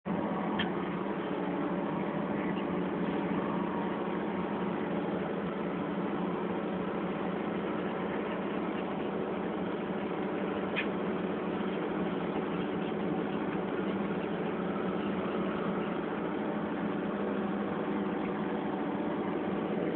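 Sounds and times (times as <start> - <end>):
excavator diesel engine running: 0.0 - 19.9.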